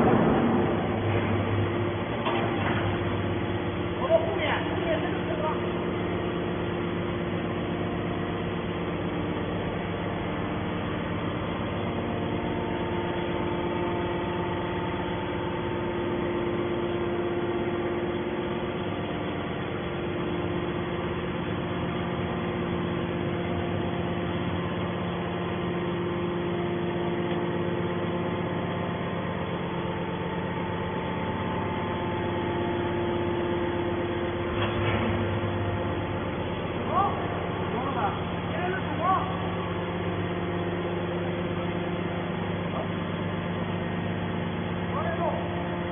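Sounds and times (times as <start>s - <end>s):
motor and pump hum: 0.0s - 45.9s.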